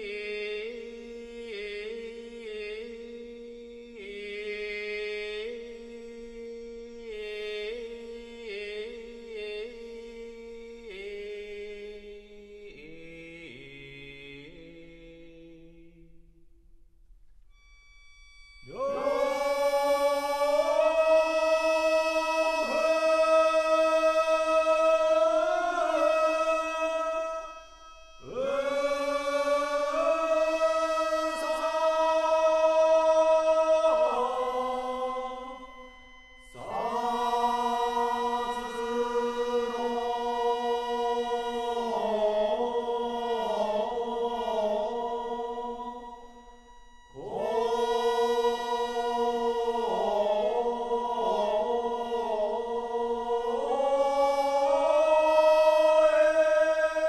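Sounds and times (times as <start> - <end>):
person chanting long held notes: 0.0 - 16.1, 17.6 - 57.0.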